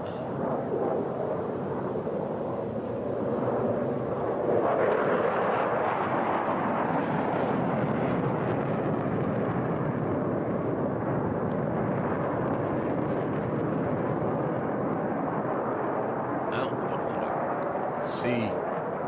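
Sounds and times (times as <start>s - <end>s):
fighter jet roar: 2.6s - 19.0s.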